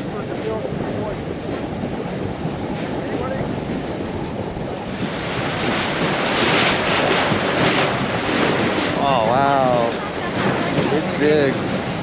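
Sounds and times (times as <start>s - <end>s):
water rushing past boat hull: 0.0s - 12.0s
wind buffeting microphone: 0.0s - 12.0s.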